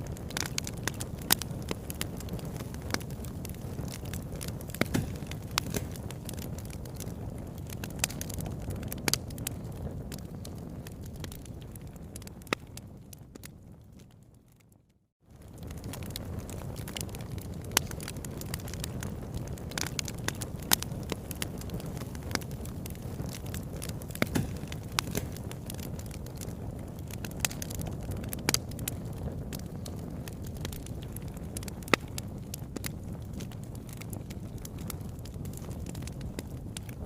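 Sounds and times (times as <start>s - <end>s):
loud pops from fire: 0.0s - 14.5s, 15.3s - 37.0s
wood fire crackling: 0.0s - 37.0s.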